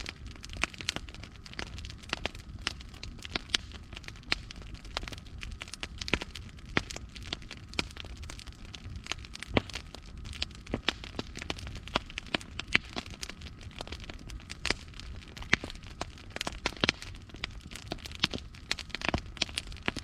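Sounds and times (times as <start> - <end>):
low rumble of burning logs: 0.0 - 20.0
wood fire crackling and popping: 0.0 - 20.0.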